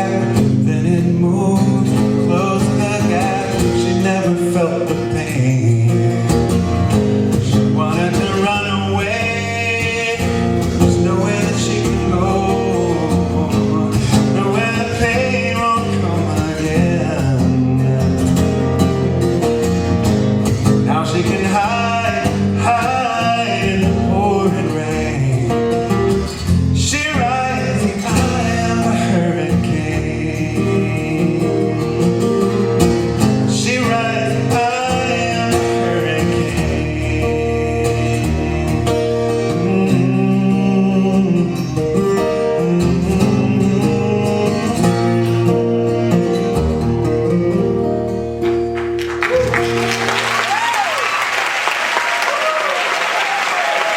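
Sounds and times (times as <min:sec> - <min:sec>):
man singing: 0:00.0 - 0:19.7, 0:20.4 - 0:48.8
acoustic guitar: 0:00.0 - 0:53.9.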